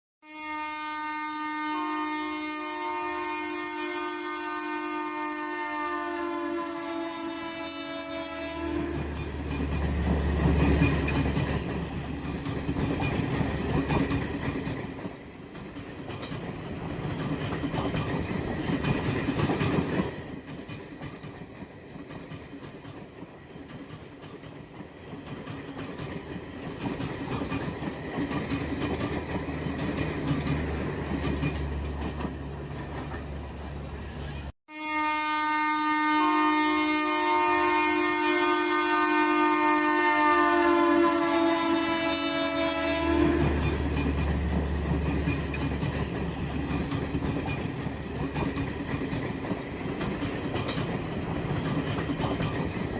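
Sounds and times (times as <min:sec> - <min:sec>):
train rumbling on track: 0:05.2 - 0:34.5, 0:36.8 - 0:52.9.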